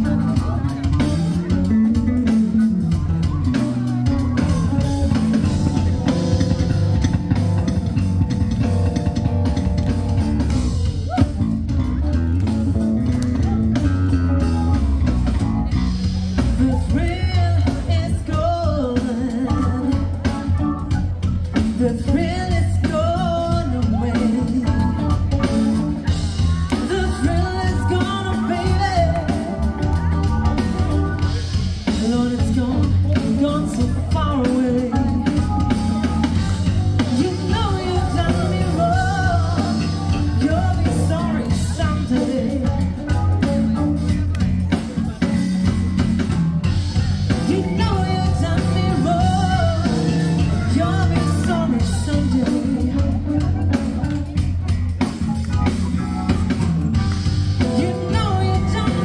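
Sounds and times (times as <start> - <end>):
bass guitar: 0.0 - 59.0
drum kit: 0.0 - 59.0
electric guitar: 0.0 - 59.0
person singing: 0.0 - 59.0.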